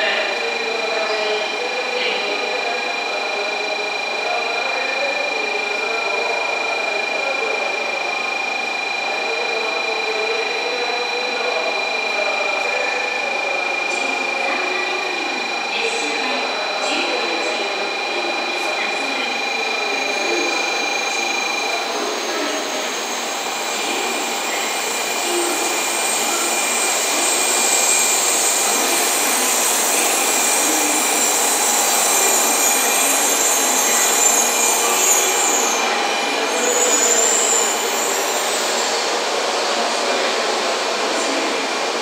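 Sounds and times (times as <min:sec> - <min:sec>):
thin high train tones: 0:00.0 - 0:42.0
train running noise: 0:00.0 - 0:42.0.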